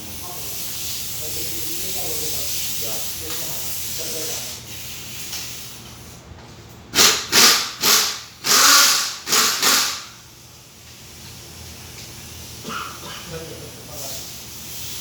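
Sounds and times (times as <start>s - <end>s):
compressed air blasts: 0.0s - 6.3s, 6.9s - 13.2s, 13.8s - 15.0s.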